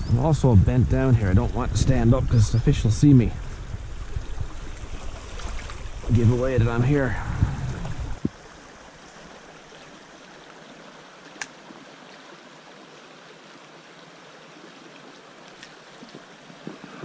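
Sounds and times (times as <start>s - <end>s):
brook running over rocks: 0.2s - 17.0s.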